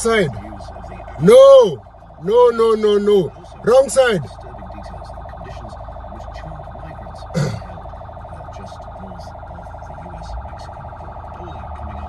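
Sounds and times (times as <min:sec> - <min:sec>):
siren pulsing tone: 0:00.0 - 0:12.0.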